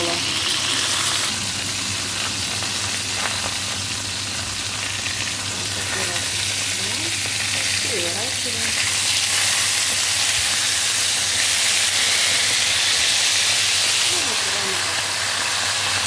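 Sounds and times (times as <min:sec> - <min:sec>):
sausages sizzling in a frying pan: 0:00.0 - 0:16.0.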